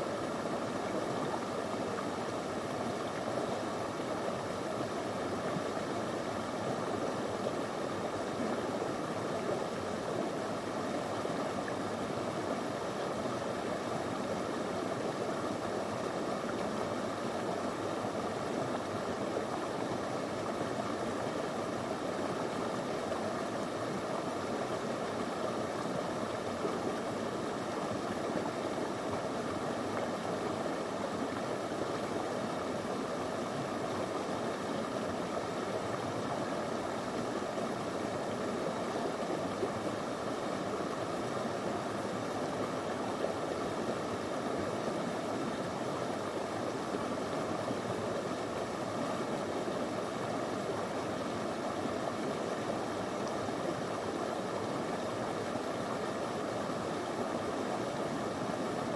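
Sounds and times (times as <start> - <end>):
stream flowing over stones: 0.0 - 58.9.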